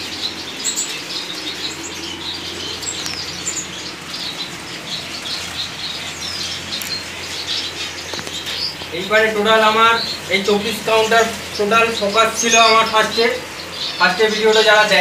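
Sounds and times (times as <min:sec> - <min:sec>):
finches chirping and twittering: 0:00.0 - 0:15.0
wings fluttering: 0:00.0 - 0:15.0.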